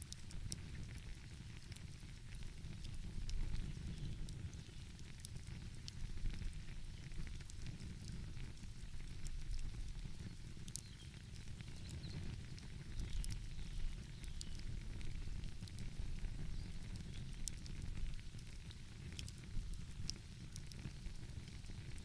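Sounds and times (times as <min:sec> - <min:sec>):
sharp pops and snaps: 0:00.0 - 0:22.0
wood fire crackling: 0:00.0 - 0:22.0.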